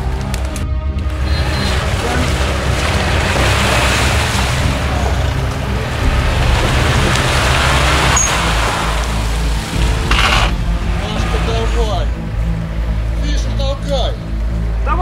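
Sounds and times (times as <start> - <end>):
off-road vehicle engine rumbling: 0.0 - 15.0.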